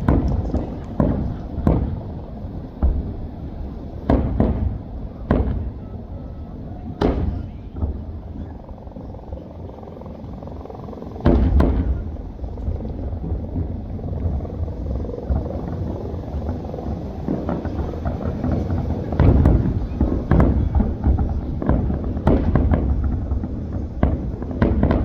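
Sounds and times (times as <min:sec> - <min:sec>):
fireworks bangs: 0:00.0 - 0:25.0
low rumble: 0:00.0 - 0:25.0.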